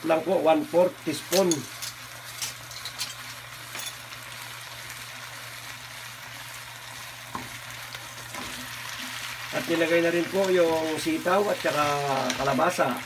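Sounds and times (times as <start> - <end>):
sauce sizzling in a frying pan: 0.0 - 13.0.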